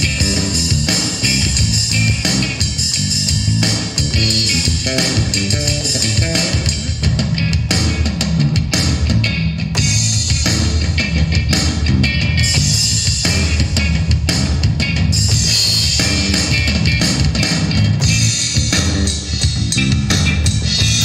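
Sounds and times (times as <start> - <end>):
electric bass plucked notes: 0.0 - 21.0.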